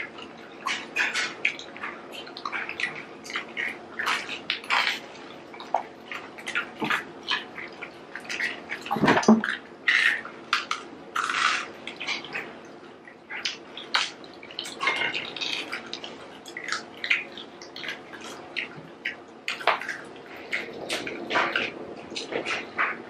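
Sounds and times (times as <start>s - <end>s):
people chewing: 0.0s - 23.0s.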